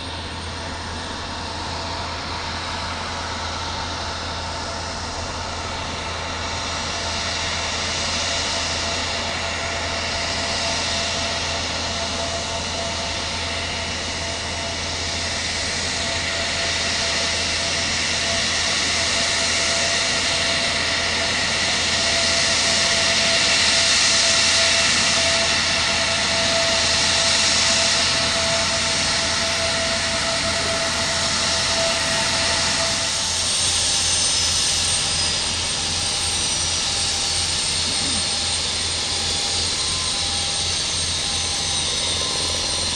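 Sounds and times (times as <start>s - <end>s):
jet engine whine: 0.0s - 42.9s.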